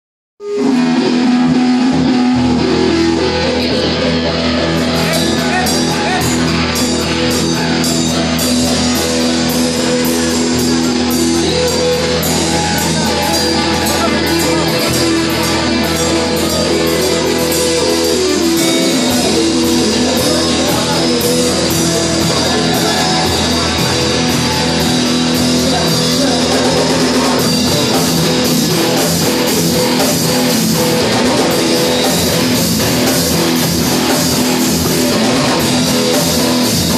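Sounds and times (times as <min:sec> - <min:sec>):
drums and cymbals: 0:00.4 - 0:36.9
electric guitar chords: 0:00.4 - 0:36.9.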